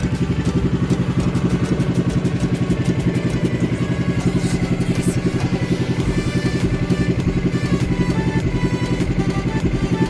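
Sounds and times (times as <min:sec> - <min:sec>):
small boat engine putter: 0:00.0 - 0:10.0.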